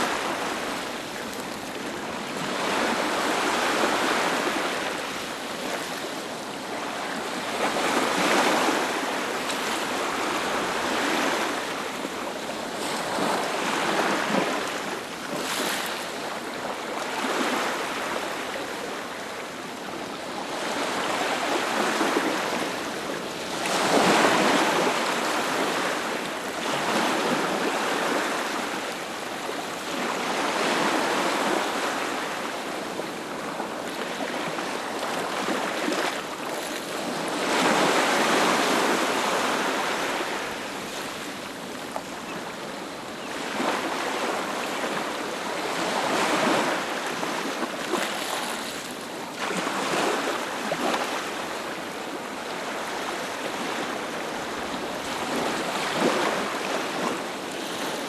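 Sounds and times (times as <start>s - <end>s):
sea waves breaking on a beach: 0.0s - 58.0s.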